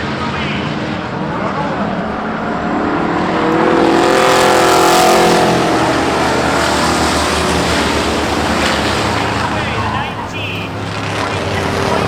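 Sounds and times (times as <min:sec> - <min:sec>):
racing truck engines: 0:00.0 - 0:12.0
truck passing close by: 0:00.0 - 0:12.0.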